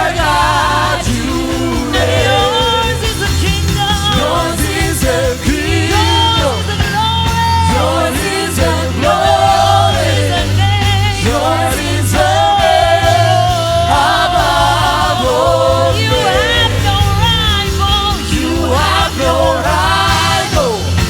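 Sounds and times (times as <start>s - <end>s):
gospel singers with band: 0.0s - 21.0s.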